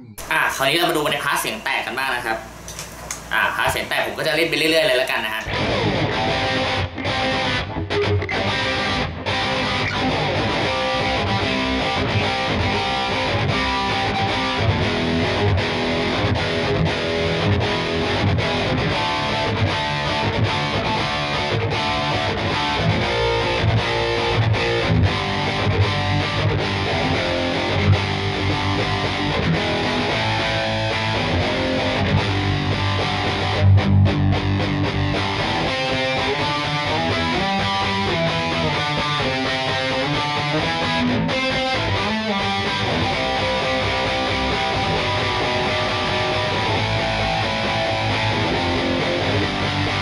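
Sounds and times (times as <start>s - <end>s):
distorted electric guitar riffs: 0.0s - 50.0s.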